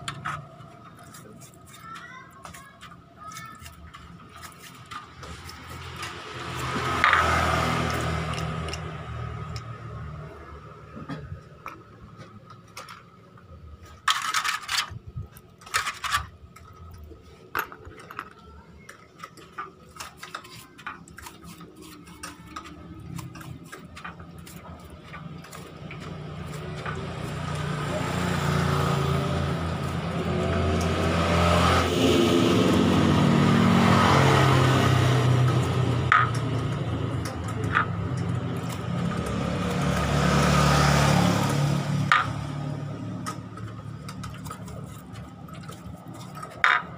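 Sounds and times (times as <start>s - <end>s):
metal parts clicking and knocking: 0.0s - 10.1s, 10.9s - 31.3s, 34.3s - 40.1s, 42.0s - 46.9s
vehicle engine running: 0.0s - 14.7s, 15.7s - 46.9s.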